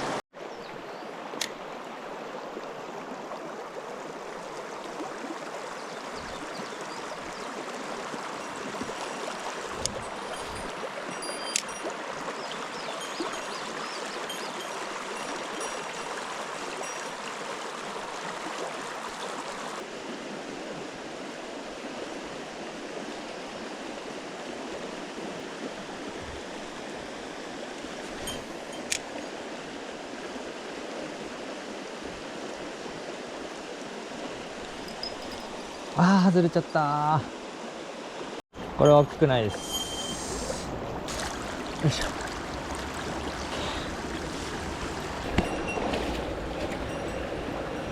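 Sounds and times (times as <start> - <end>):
stream water rushing over rocks: 0.0 - 47.9.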